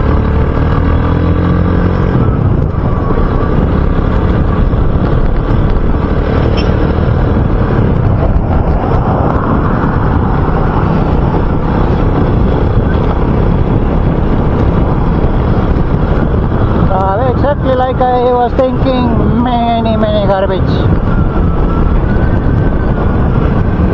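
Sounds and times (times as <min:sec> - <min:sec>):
motorcycle engine running: 0:00.0 - 0:23.9
wind on microphone: 0:00.0 - 0:23.9.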